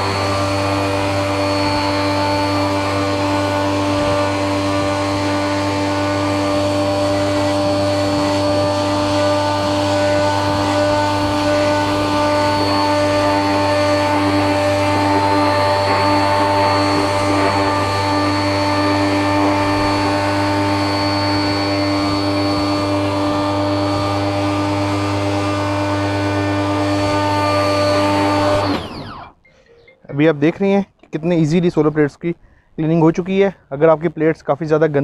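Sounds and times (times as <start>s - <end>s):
pressure washer motor hum: 0.0s - 29.5s.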